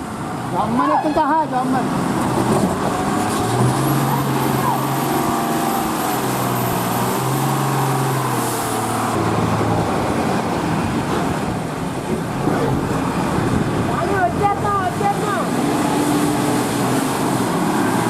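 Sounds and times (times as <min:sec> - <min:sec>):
road noise: 0:00.0 - 0:18.0
truck engine droning: 0:00.0 - 0:18.0.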